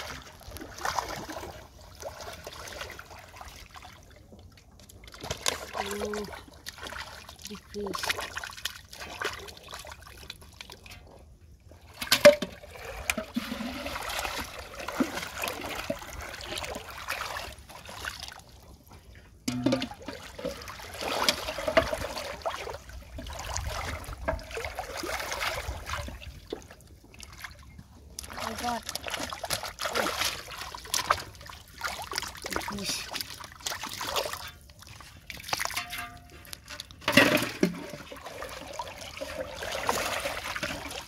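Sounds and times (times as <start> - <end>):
pond water splashing: 0.0 - 41.0.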